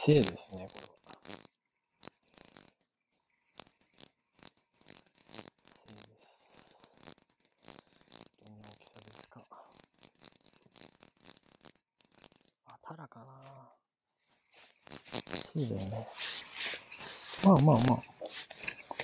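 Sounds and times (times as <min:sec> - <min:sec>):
fishing reel clicking and rattling: 0:00.0 - 0:12.6, 0:14.3 - 0:19.0.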